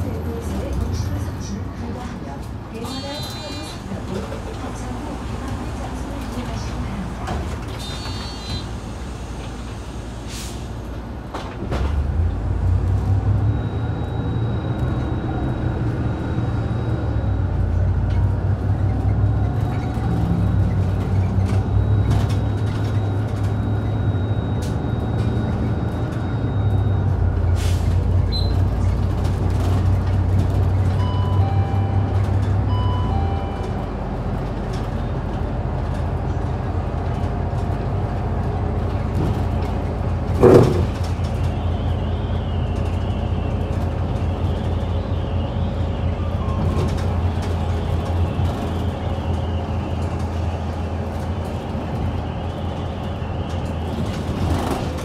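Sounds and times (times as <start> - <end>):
bus engine accelerating: 0.0 - 55.0.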